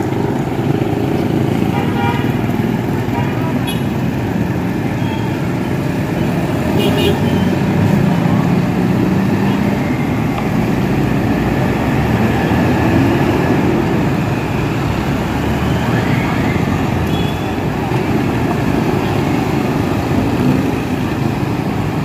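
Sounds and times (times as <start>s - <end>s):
vehicles passing on wet road: 0.0s - 22.0s.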